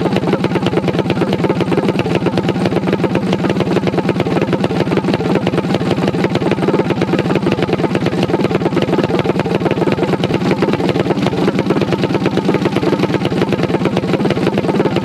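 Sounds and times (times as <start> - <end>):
minibike engine idling: 0.0 - 15.0.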